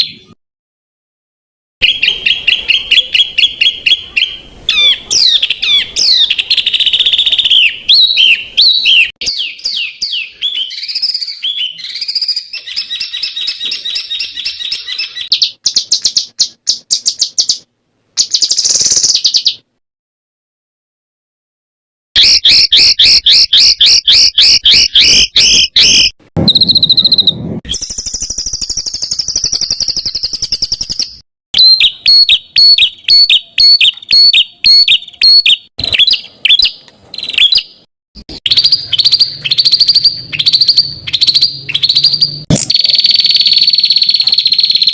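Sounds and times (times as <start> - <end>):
songbird singing: 1.8 - 19.7, 22.2 - 37.9, 38.5 - 44.9.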